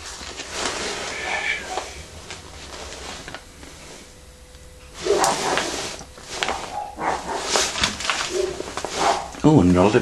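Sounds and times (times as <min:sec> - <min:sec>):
packaging rustling: 0:00.0 - 0:03.9, 0:05.1 - 0:10.0.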